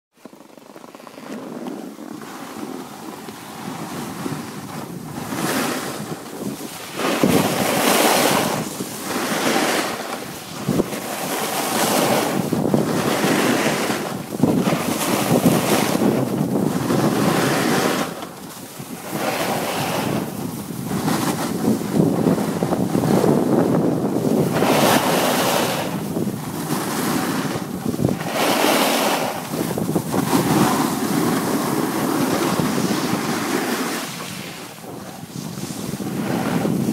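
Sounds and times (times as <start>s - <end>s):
skis scraping packed snow: 0.2s - 36.9s
wind buffeting microphone: 0.5s - 36.9s.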